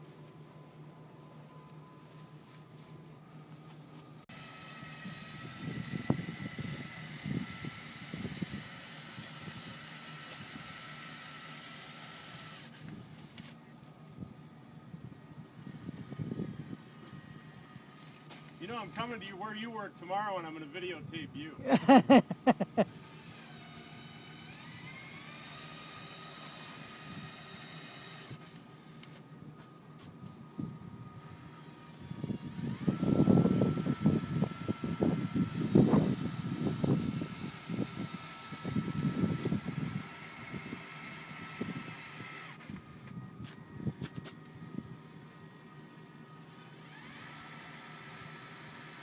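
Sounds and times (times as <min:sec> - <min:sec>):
faint high whine: 0:00.0 - 0:21.8, 0:22.4 - 0:49.0.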